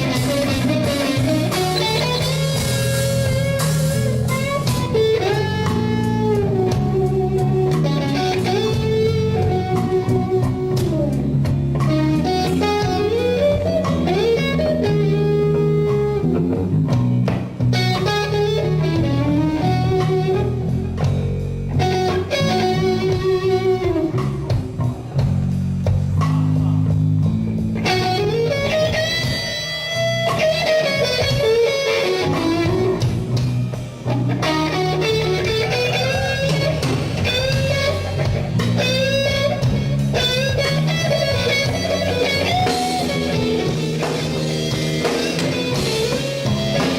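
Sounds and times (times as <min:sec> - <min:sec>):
bass accompaniment: 0:00.0 - 0:46.9
electric guitar lead lines: 0:00.0 - 0:46.9.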